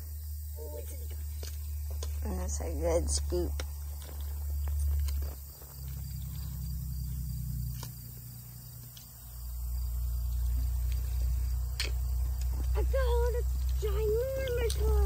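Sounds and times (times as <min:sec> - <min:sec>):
insects chirping: 0:00.0 - 0:15.0
low uneven rumble: 0:00.0 - 0:15.0.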